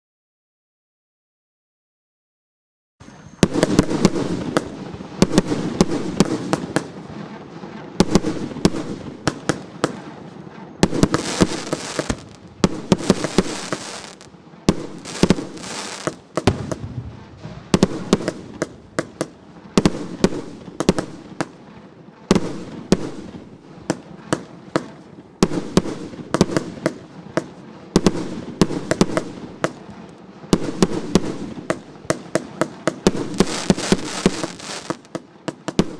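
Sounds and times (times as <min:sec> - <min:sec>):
firework bangs: 0:03.0 - 0:35.9.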